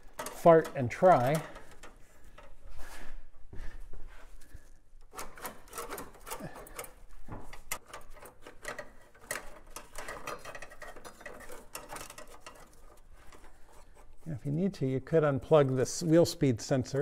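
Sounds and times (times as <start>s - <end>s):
metal tubing scraping and clicking: 0.0s - 2.8s, 4.4s - 17.0s.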